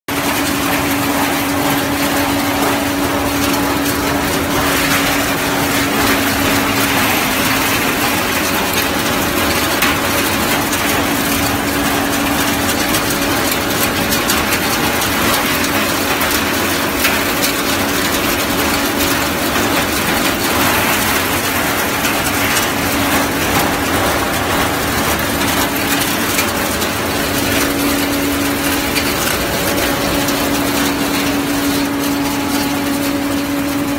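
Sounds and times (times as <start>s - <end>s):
threshing machine running: 0.1s - 33.9s.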